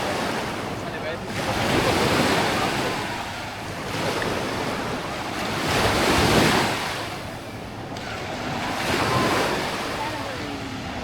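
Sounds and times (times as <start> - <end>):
small waves washing up beach: 0.0 - 11.0.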